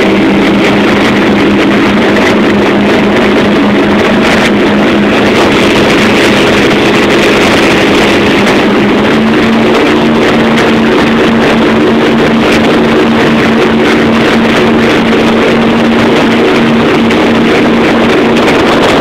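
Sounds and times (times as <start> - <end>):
powerboat engines running: 0.0 - 19.0
rush of wind and water: 0.0 - 19.0.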